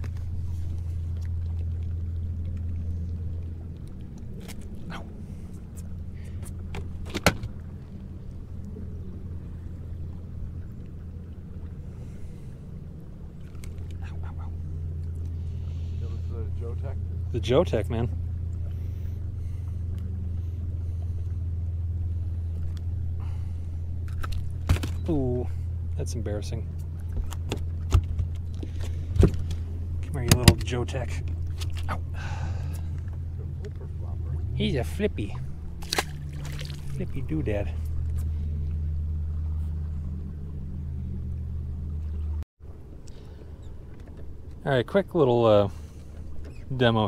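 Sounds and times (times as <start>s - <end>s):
boat motor humming: 0.0s - 47.0s.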